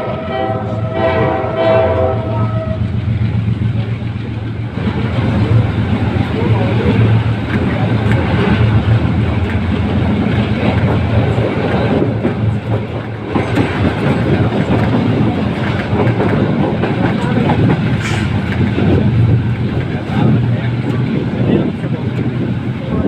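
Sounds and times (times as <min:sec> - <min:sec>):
train rumbling at speed: 0:00.0 - 0:23.0
wheels clattering on track: 0:02.3 - 0:23.0.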